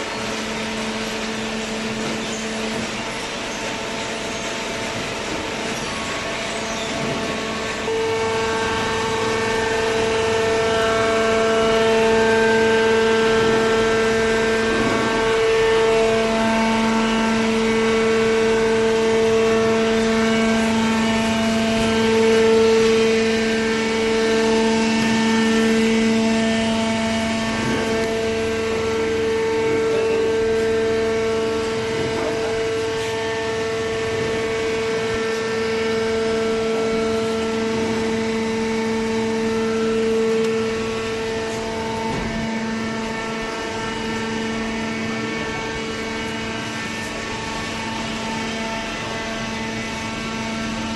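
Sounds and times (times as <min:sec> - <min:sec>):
baler machine hum: 0:00.0 - 0:50.9
hydraulic whine: 0:00.0 - 0:50.9.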